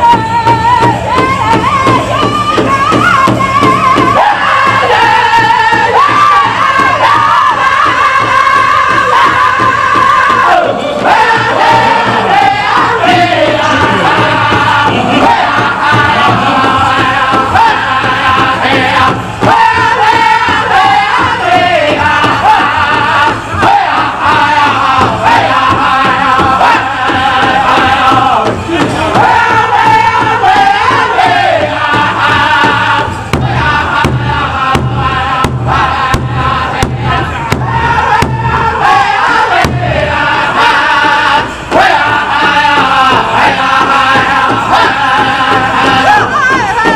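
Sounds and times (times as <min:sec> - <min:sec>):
big drum beating steadily: 0:00.0 - 0:46.9
group singing together: 0:00.0 - 0:46.9.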